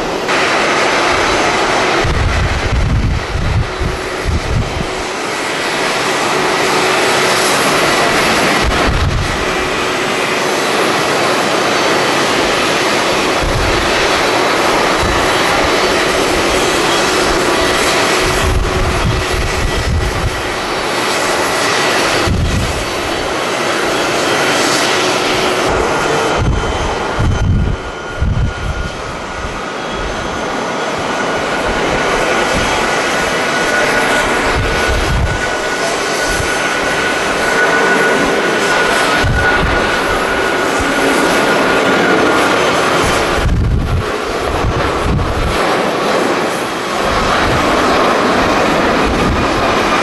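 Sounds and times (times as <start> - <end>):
jet engines roaring: 0.0 - 50.0
wind buffeting microphone: 0.0 - 50.0.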